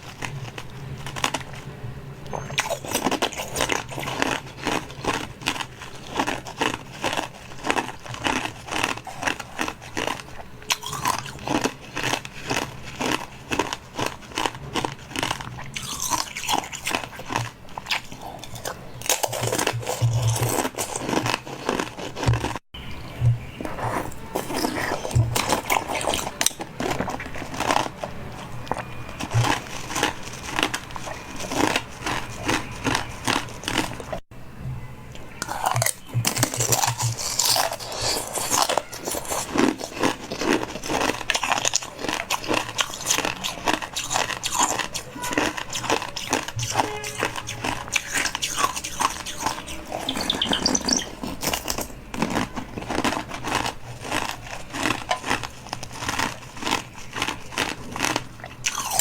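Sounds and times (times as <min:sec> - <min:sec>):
food being crunched: 0:02.3 - 0:22.6, 0:23.3 - 0:34.2, 0:35.4 - 0:59.0.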